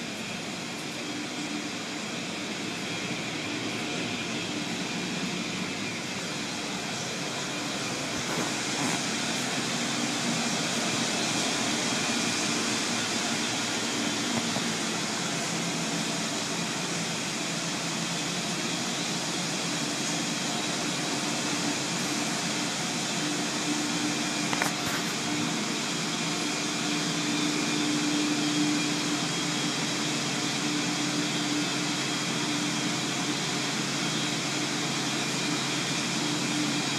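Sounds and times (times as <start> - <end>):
machinery noise: 0.0 - 36.9.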